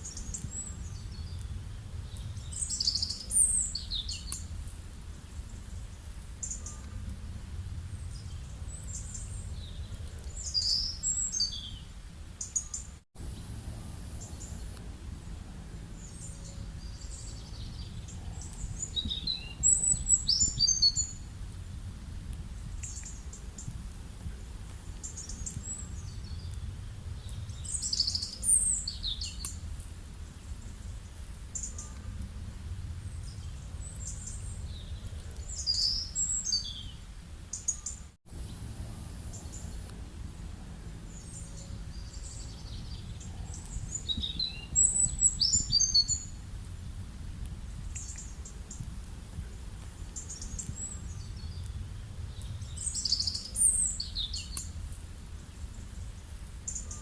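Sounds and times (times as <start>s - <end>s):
steady low rumble: 0.0s - 12.4s, 13.2s - 37.5s, 38.2s - 57.0s
small birds chirping: 0.0s - 46.6s, 47.4s - 57.0s.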